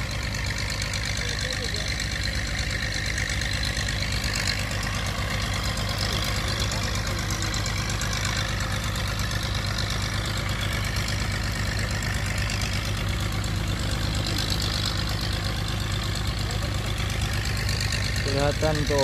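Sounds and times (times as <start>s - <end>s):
engine-driven water pump droning: 0.0s - 19.0s.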